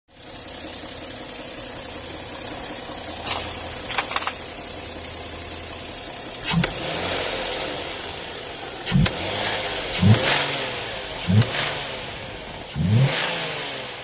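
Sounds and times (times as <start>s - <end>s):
car engine running: 0.1s - 14.0s.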